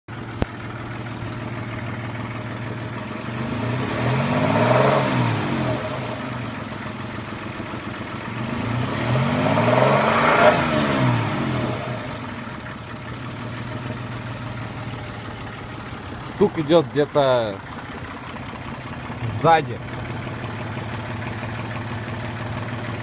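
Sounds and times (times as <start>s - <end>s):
engine knocking: 0.1s - 9.2s, 12.0s - 23.0s
car engine idling and revving: 0.1s - 23.0s.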